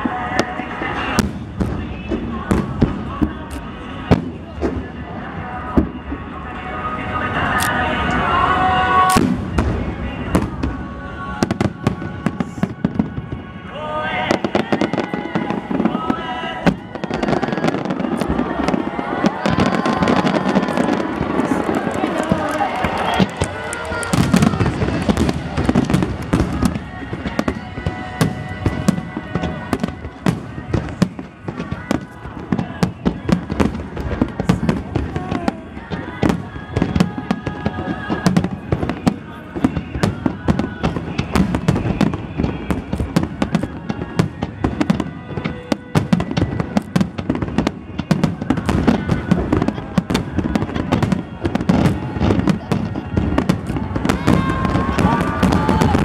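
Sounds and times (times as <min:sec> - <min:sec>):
music: 0:00.0 - 0:56.0.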